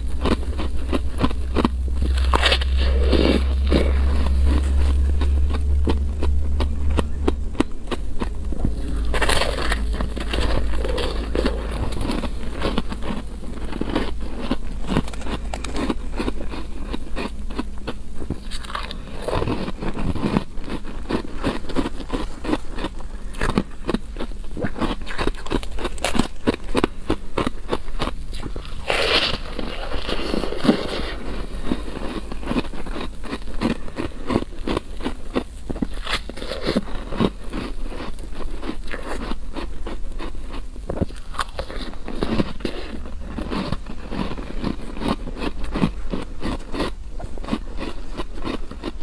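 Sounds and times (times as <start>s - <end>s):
chewing crunchy ice: 0.0s - 49.0s
steady low hum: 0.0s - 49.0s.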